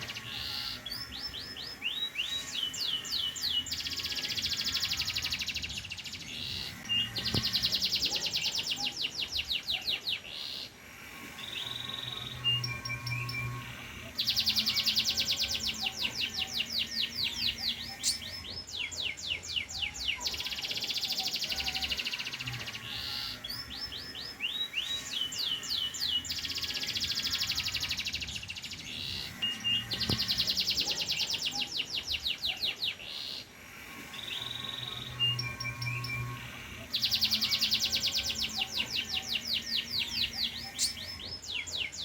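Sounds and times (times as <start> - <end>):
canary singing rolling trills: 0.0 - 42.0.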